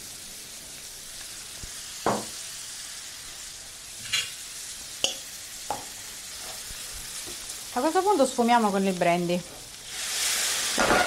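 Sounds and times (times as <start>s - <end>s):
fish sizzling in a frying pan: 0.0s - 11.0s.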